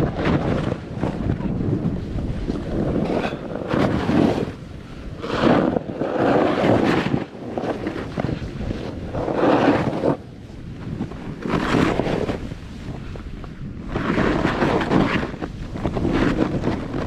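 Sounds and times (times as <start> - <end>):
snowboard carving through snow: 0.0 - 17.0
wind on microphone: 0.0 - 17.0.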